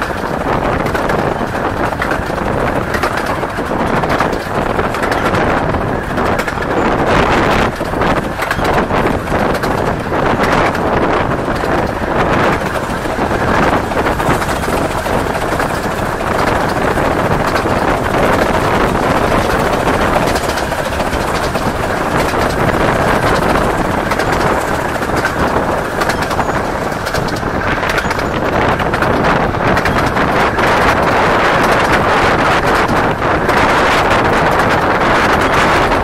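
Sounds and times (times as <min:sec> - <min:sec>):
train running on track: 0:00.0 - 0:36.0
wind buffeting the microphone: 0:00.0 - 0:36.0.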